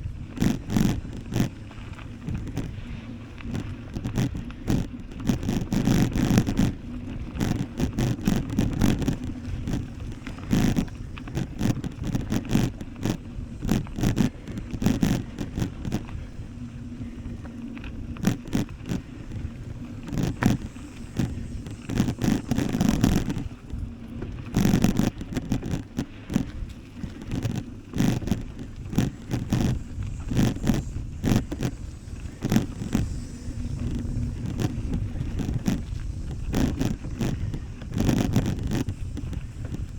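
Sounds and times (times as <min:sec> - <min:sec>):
bicycle rattling over rough ground: 0:00.0 - 0:39.9.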